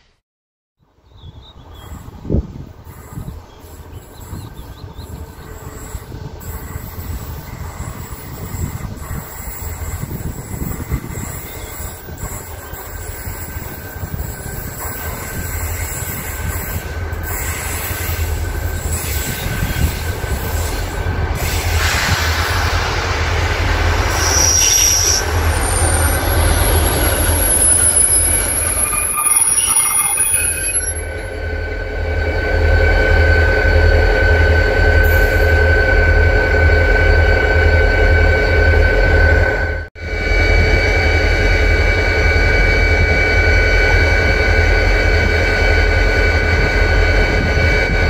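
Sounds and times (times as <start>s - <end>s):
diesel locomotive engine rumble: 0.8s - 48.0s
wheels squealing on rails: 1.3s - 48.0s.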